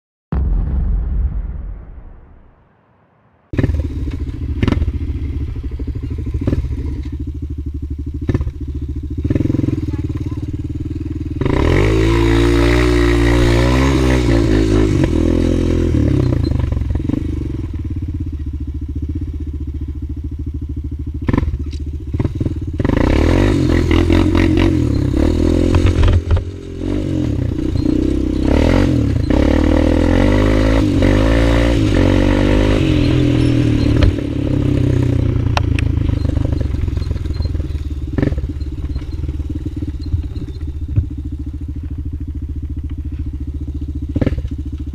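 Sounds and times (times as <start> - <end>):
atv engine accelerating: 3.6 - 44.9.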